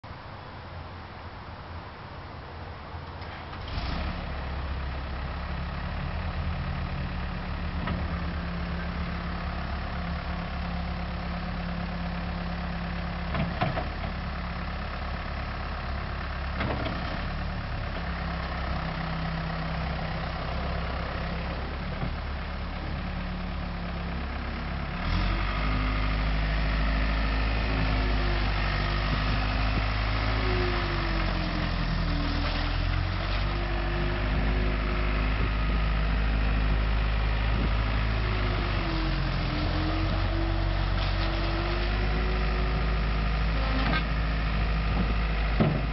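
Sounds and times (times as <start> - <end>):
engine whine: 2.3 - 45.9
diesel engine idling: 3.3 - 45.9.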